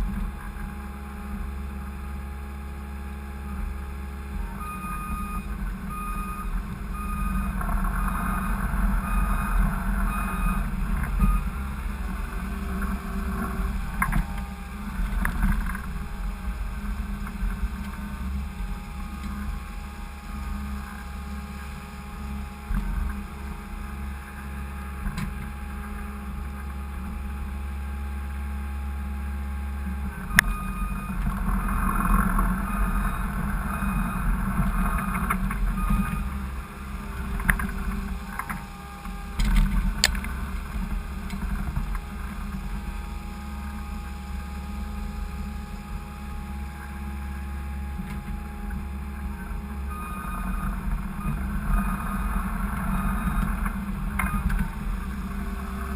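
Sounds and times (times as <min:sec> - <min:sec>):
skid steer engine running: 0:00.0 - 0:55.9.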